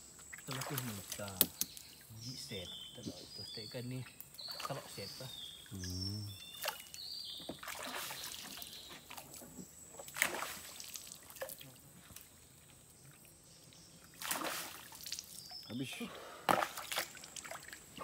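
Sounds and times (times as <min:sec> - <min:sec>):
water dripping and splashing: 0:00.2 - 0:18.0.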